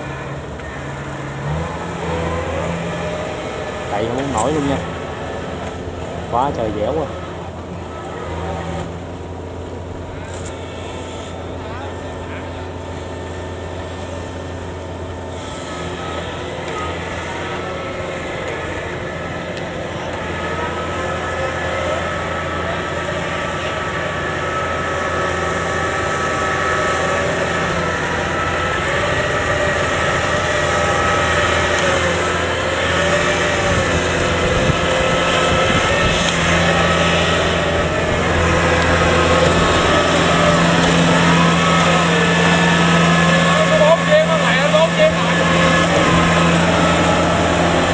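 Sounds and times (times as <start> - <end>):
diesel engine running hard: 0.0 - 47.9.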